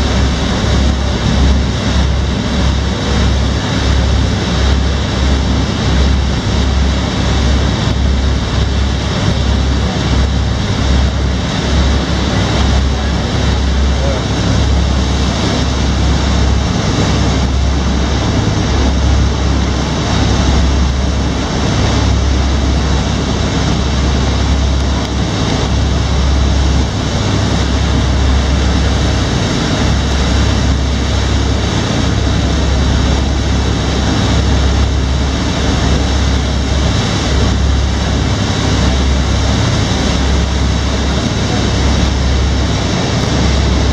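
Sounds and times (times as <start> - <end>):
boat engine droning: 0.0 - 43.9
water rushing in wake: 0.0 - 43.9.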